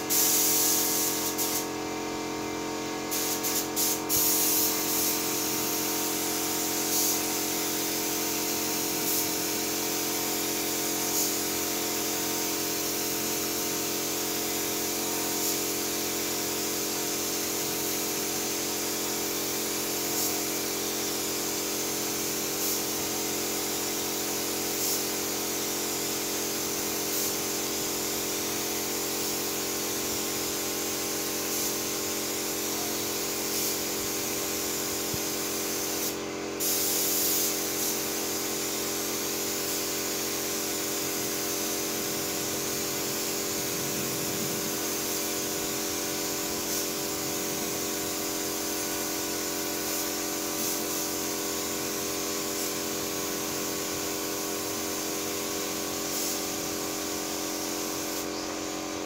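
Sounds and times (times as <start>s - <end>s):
paint spray gun hissing: 0.0s - 59.0s.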